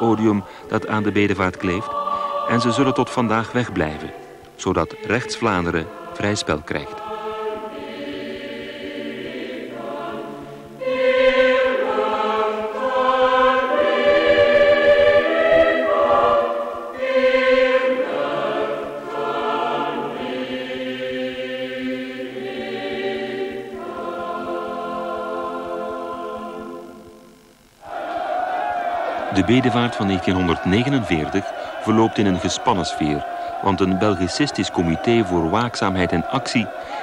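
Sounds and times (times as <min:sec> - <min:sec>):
choir singing held notes: 0:00.0 - 0:37.0.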